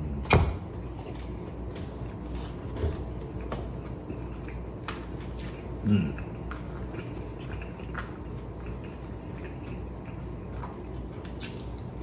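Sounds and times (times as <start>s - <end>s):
steady low hum: 0.0s - 12.0s
person chewing food: 0.7s - 12.0s.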